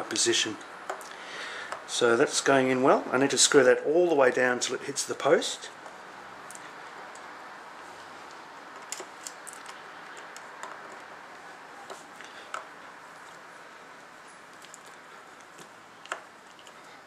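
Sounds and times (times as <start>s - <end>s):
low hiss: 0.0s - 17.0s.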